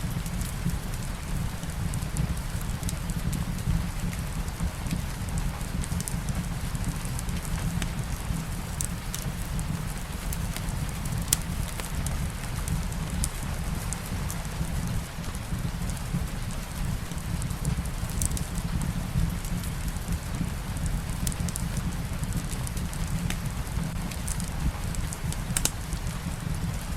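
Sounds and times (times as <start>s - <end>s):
light rain falling: 0.0s - 26.9s
wood fire crackling: 0.0s - 26.9s.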